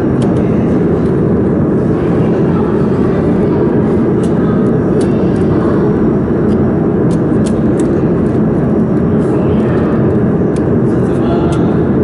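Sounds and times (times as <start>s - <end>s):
workshop machinery rumble: 0.0s - 12.0s.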